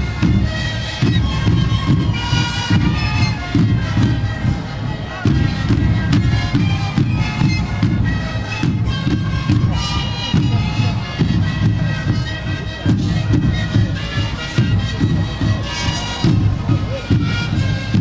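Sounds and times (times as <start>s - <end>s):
panpipes playing melody: 0.0s - 18.0s.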